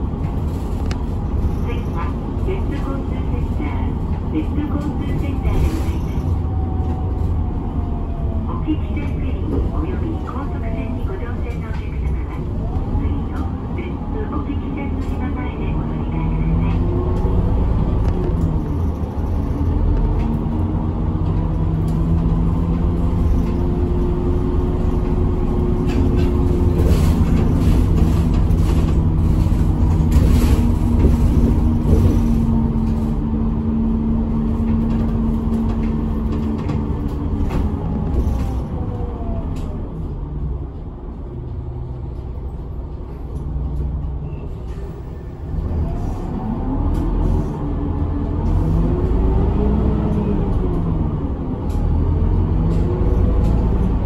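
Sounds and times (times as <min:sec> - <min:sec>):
bus engine rumbling: 0:00.0 - 0:54.0.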